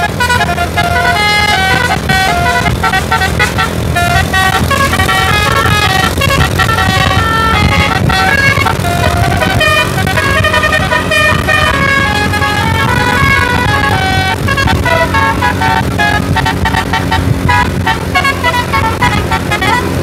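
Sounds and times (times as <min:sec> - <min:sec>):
low rumble: 0:00.0 - 0:19.2
musical air horn tune: 0:00.0 - 0:20.0.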